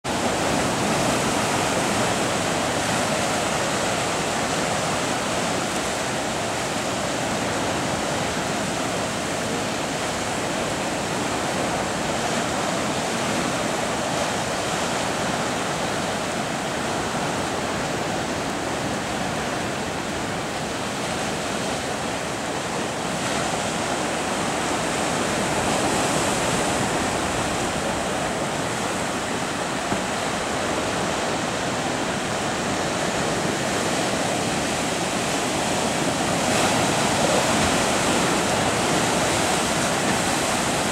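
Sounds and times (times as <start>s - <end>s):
rough sea breaking surf: 0.0s - 40.9s.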